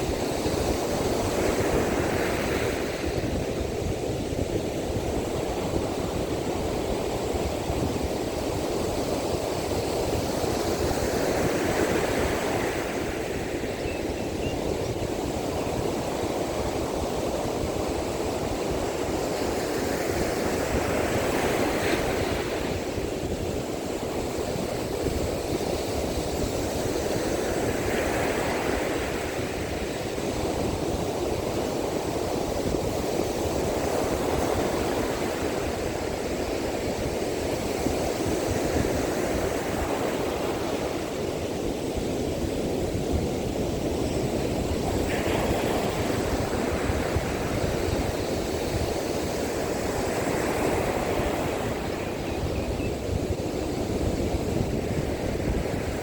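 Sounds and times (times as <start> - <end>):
strong wind: 0.0 - 56.0
surf waves crashing on beach: 0.0 - 56.0.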